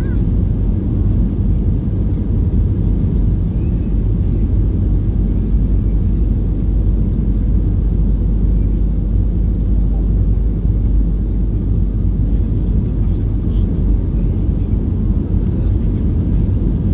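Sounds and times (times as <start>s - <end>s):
airplane cabin rumble: 0.0s - 16.9s.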